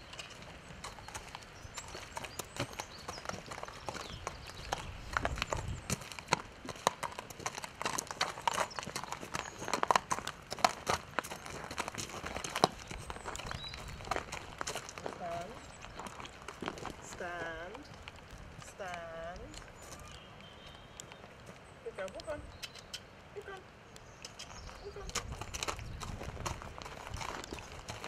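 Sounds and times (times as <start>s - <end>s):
hooves crunching on gravel: 0.0s - 28.0s.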